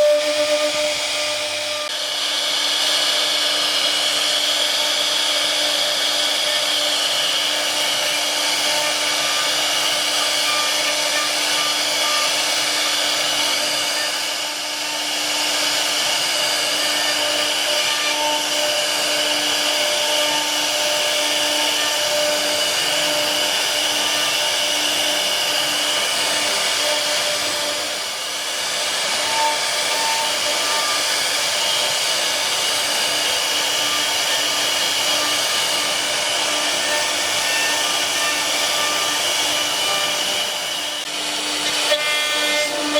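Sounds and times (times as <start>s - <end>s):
spindle whining hum: 0.0s - 42.9s.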